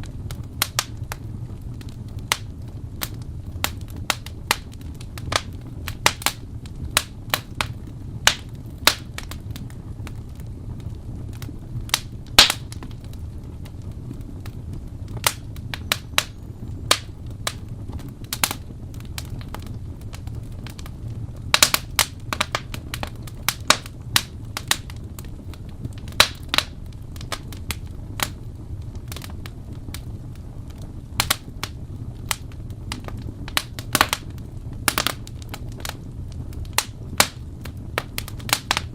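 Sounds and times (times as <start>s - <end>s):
fire popping and snapping: 0.0s - 38.9s
low rumble of flame: 0.0s - 38.9s.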